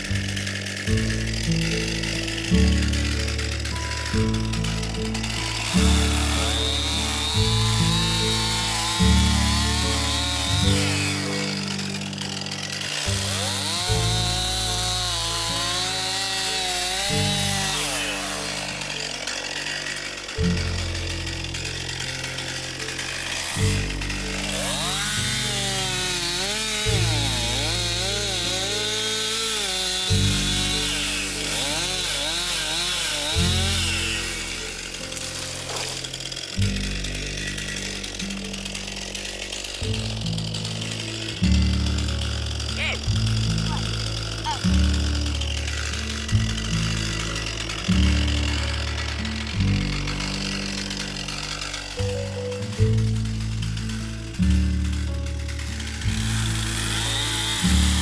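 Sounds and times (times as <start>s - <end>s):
chainsaw cutting trees: 0.0s - 58.0s.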